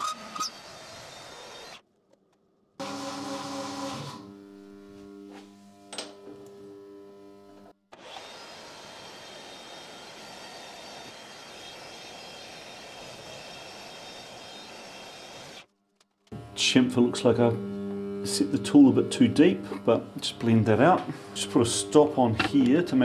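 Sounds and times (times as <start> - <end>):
milling machine whine: 2.8 - 15.6, 16.4 - 23.0.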